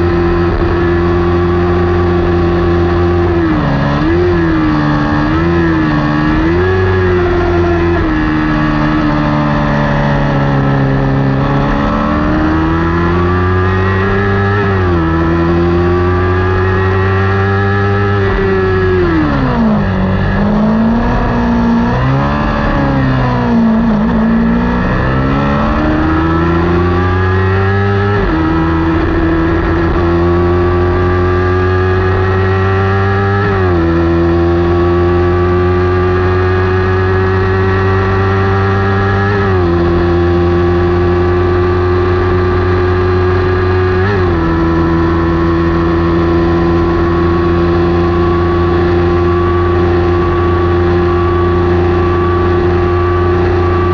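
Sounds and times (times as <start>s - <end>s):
motorcycle engine at full throttle: 0.0s - 53.9s.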